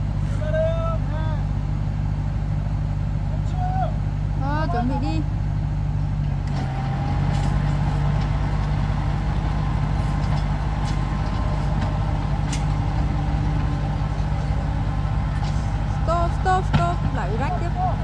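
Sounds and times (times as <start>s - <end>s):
tractor engine humming: 0.0s - 18.0s.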